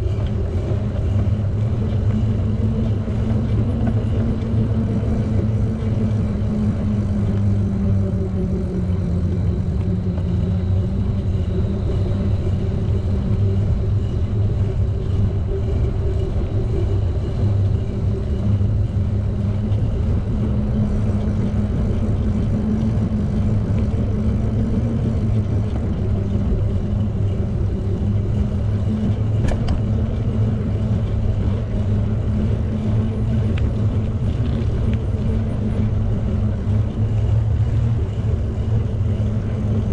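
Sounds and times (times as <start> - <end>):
wind rumble: 0.0 - 39.9.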